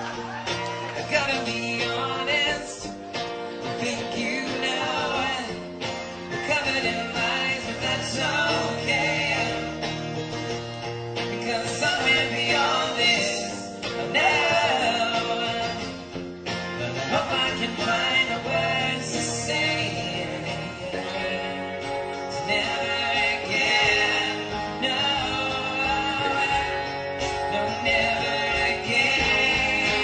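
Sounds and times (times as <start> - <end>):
strummed acoustic guitar: 0.0 - 30.0
man singing: 0.9 - 2.9, 3.6 - 9.9, 11.2 - 16.0, 16.8 - 30.0.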